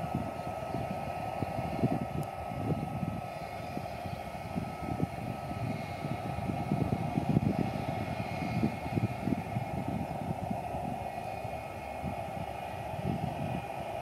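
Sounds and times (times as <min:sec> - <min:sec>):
jet engines whining: 0:00.0 - 0:14.0
low rumble of rolling plane: 0:00.0 - 0:14.0.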